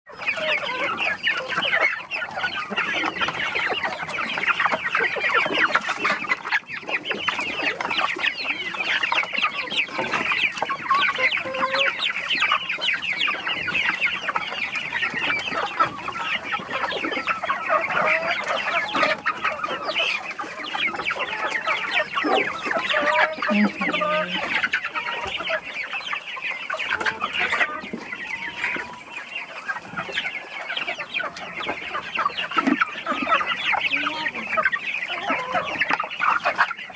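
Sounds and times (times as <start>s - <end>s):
chickens clucking: 0.1s - 36.9s.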